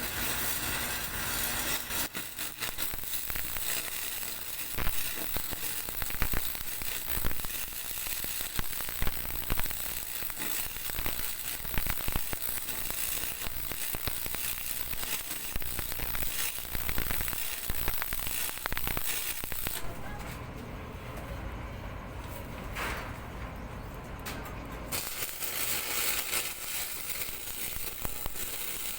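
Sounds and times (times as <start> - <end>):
welding arc crackling and popping: 0.0 - 20.4, 24.9 - 28.9.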